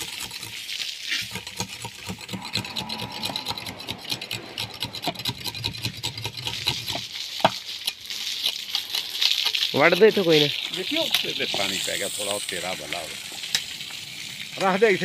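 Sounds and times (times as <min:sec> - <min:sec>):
knife scraping sugarcane: 0:00.0 - 0:12.4.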